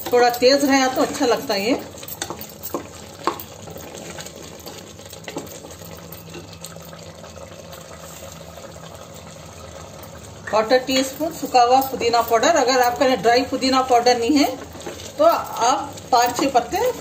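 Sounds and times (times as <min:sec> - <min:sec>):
gravy bubbling in a pot: 0:00.0 - 0:17.0.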